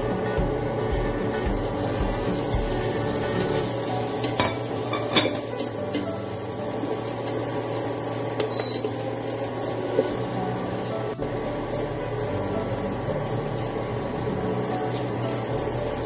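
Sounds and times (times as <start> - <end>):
food sizzling in a frying pan: 1.2 - 16.0.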